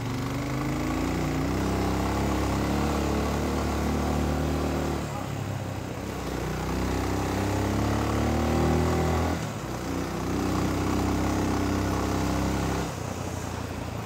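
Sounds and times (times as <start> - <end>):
dirt bike engine revving: 0.0 - 5.2, 6.0 - 13.0.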